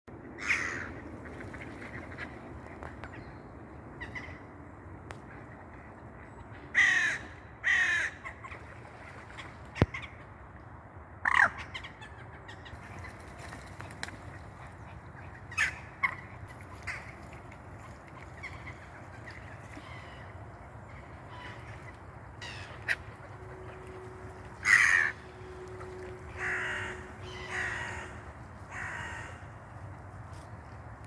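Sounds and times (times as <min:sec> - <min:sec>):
low outdoor background: 0:00.1 - 0:31.0.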